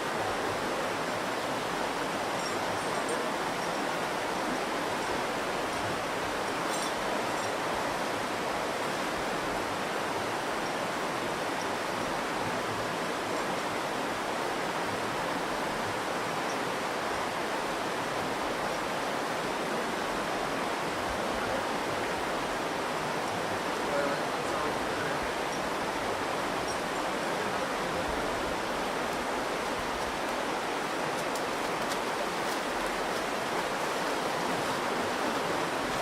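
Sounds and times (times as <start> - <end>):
river water roaring: 0.0 - 36.0.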